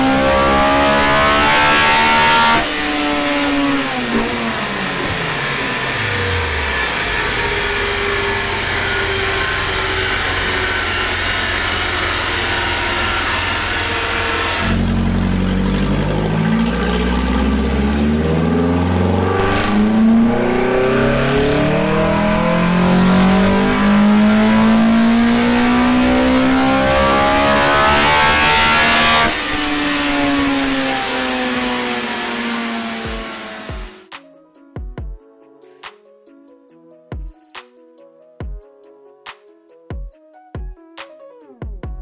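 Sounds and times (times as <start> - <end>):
car engine revving under load: 0.0 - 34.0.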